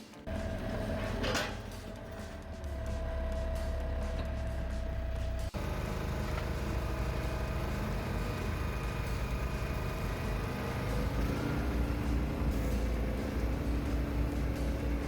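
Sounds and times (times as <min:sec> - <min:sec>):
engine running steadily: 0:00.3 - 0:15.0
engine-like drone: 0:00.3 - 0:15.0.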